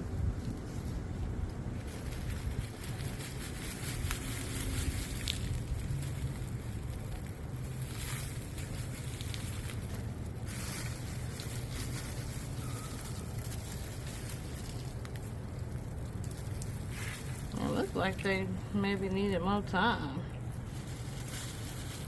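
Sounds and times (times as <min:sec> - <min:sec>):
hands rustling in soil: 0:00.0 - 0:22.0
wind rumble on microphone: 0:00.0 - 0:22.0.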